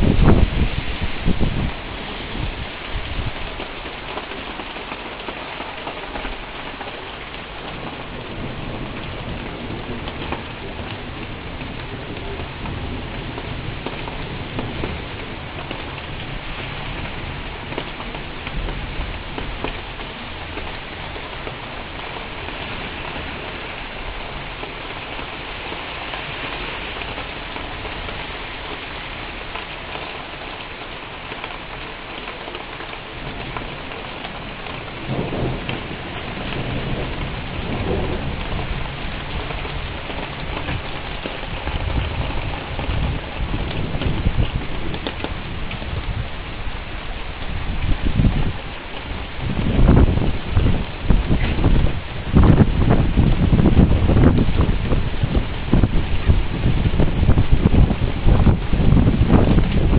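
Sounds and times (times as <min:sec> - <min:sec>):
thunder rumbling: 0:00.0 - 0:28.4, 0:32.4 - 0:59.9
heavy rain falling: 0:00.0 - 0:59.9.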